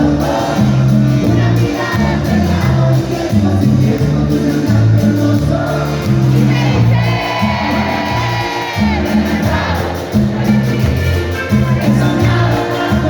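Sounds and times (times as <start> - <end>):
bass line: 0.0 - 13.0
live band playing instrumental: 0.0 - 13.0.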